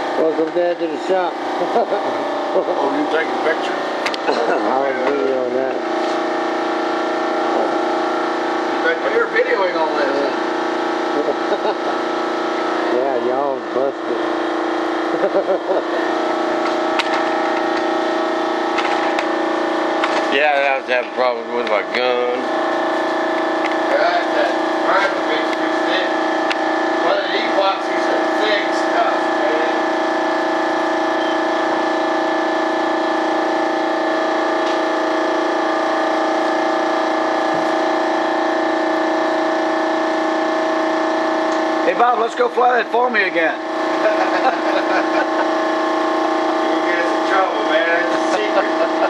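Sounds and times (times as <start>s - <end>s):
steady multi-pitched hum: 0.0s - 49.0s.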